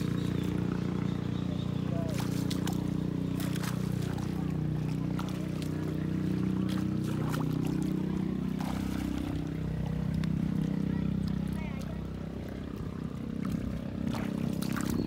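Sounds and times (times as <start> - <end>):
small engine running: 0.0 - 15.0
water sounds: 0.0 - 15.0.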